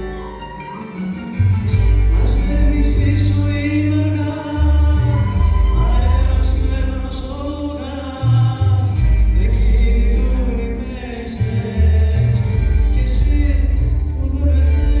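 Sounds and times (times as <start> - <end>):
deep sustained bass line: 1.2 - 15.0
gliding singing voices: 2.0 - 15.0.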